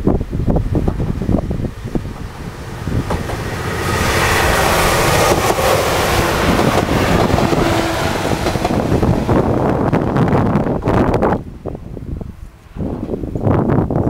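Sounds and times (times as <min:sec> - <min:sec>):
train passing close by: 0:00.0 - 0:14.0
wind buffeting microphone: 0:00.0 - 0:14.0.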